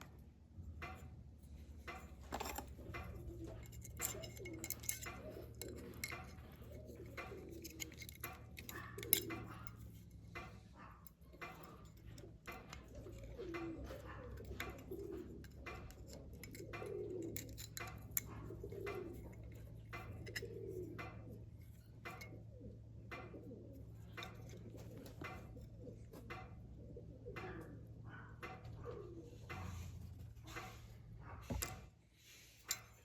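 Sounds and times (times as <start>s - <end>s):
bird cooing: 2.4s - 30.9s.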